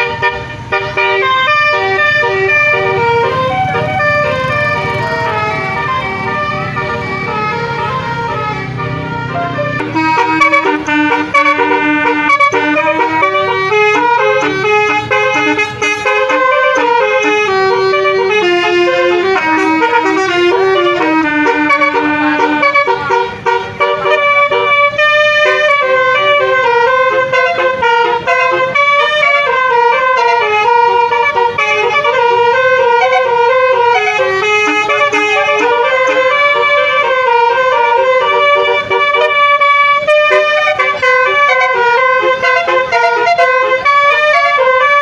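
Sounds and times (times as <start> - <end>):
musical car horn melody: 0.0 - 45.0.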